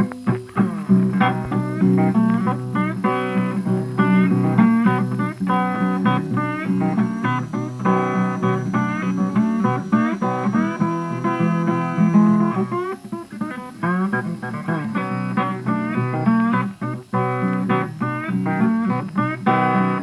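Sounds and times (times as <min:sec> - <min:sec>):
plucked guitar tune: 0:00.0 - 0:20.0.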